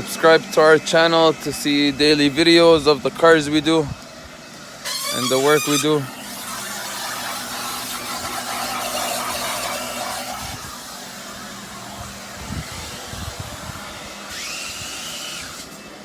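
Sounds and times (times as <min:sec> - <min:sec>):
machine whine: 0:00.0 - 0:16.0.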